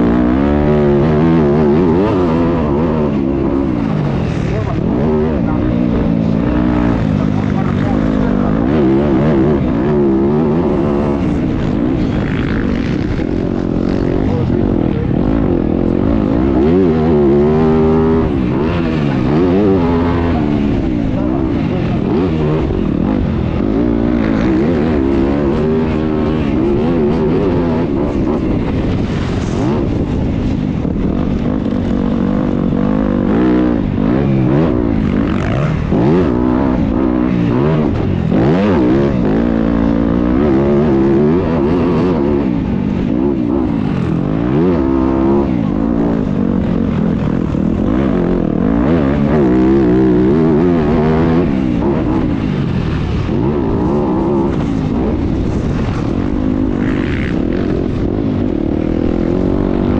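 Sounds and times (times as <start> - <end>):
motocross bikes racing: 0.0 - 59.9.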